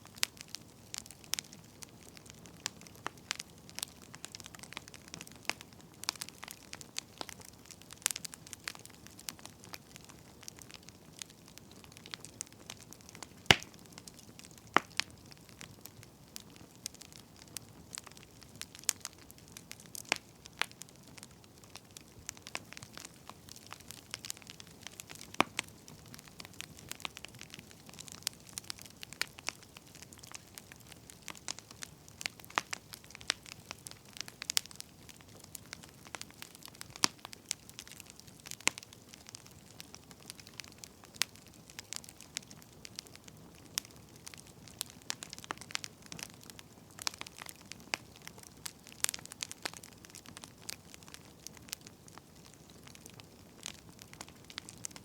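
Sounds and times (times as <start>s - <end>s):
firewood crackling and popping: 0.0s - 55.0s
soft steady hiss: 0.0s - 55.0s.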